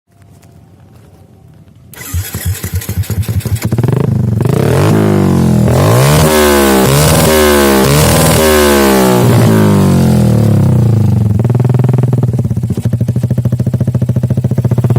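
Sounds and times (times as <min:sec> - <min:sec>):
motorcycle engine revving: 0:01.9 - 0:14.9.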